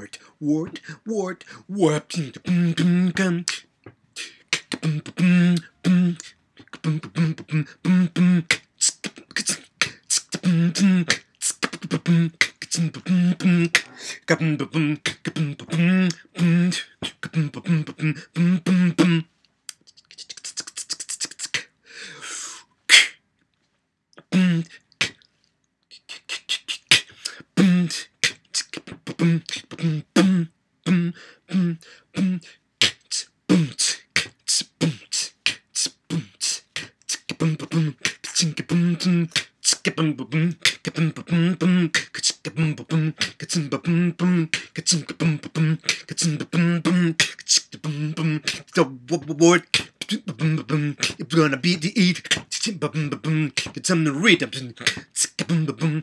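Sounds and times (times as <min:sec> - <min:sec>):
man beatboxing: 0:00.0 - 0:23.2, 0:24.2 - 0:25.3, 0:25.9 - 0:56.0.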